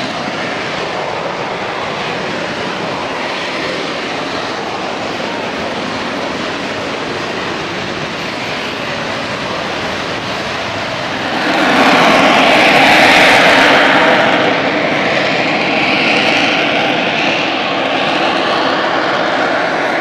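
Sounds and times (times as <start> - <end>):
military jet flying low: 0.0 - 20.0.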